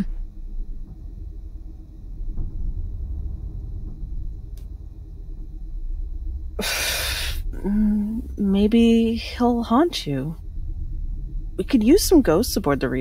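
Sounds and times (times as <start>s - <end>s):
low spaceship rumble: 0.0s - 13.0s.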